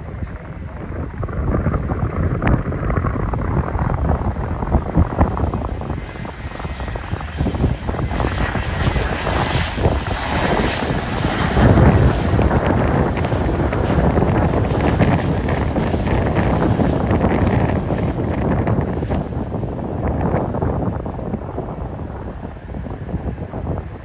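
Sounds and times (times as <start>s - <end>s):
airplane engines passing: 0.0s - 24.0s
wind buffeting microphone: 0.0s - 24.0s.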